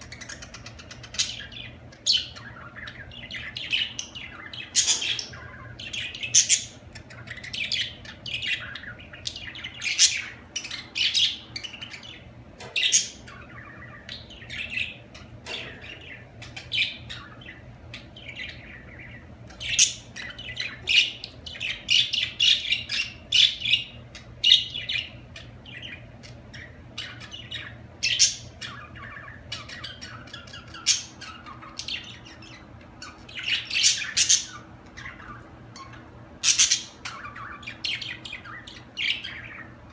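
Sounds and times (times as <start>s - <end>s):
budgerigars chirping and squawking: 0.0s - 39.9s
faint low hum: 0.0s - 39.9s.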